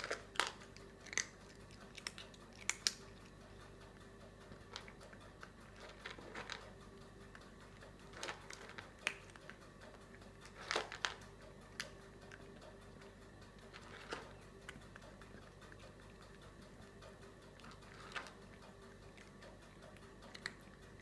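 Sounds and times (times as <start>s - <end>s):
cat chewing and crunching: 0.0s - 21.0s
faint steady hum: 0.0s - 21.0s.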